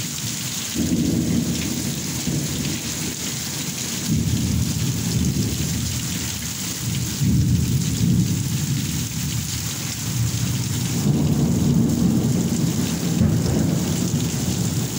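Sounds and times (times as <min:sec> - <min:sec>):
heavy rain pouring: 0:00.0 - 0:14.9
low thunder rumble: 0:00.7 - 0:14.9.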